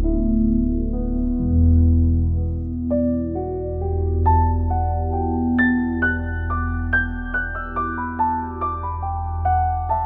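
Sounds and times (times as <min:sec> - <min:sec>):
gentle keyboard melody: 0:00.0 - 0:10.0.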